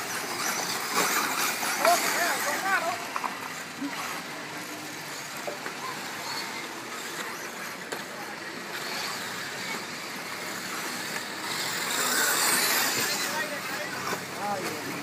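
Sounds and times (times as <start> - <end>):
high motor whines: 0.0 - 15.0.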